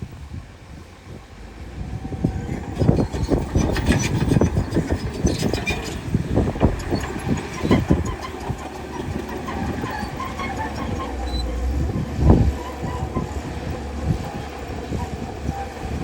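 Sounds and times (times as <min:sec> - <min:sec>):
heavy machinery rattling and clanking: 0:01.4 - 0:16.0.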